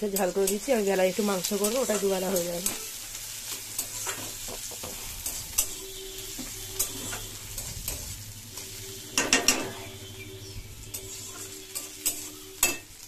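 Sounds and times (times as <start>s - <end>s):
food sizzling in oil: 0.0s - 13.0s
metal spatula scraping pan: 1.5s - 13.0s.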